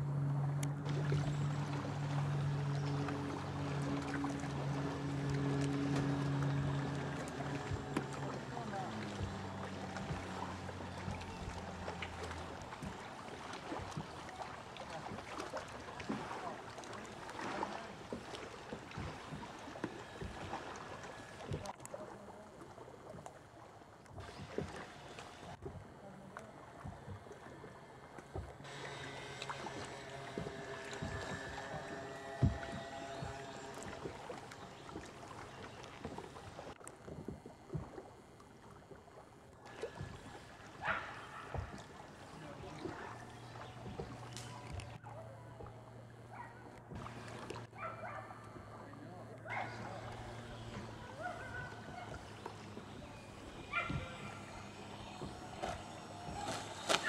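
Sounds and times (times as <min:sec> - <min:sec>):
distant electric motor whine: 0:00.0 - 0:21.8, 0:24.2 - 0:57.0
water lapping: 0:00.0 - 0:57.0
small splashes: 0:00.1 - 0:57.0.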